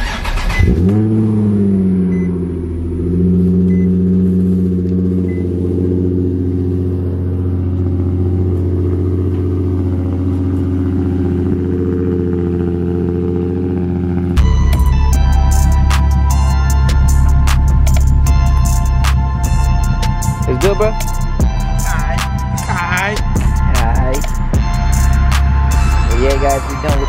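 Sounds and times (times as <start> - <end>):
car engine starting and idling: 0.0 - 27.0.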